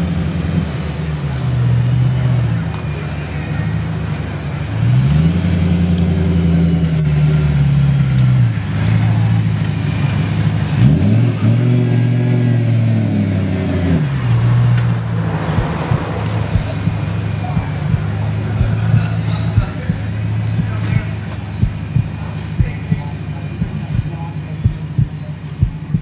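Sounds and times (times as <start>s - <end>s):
car engine pulling away: 0.0s - 26.0s.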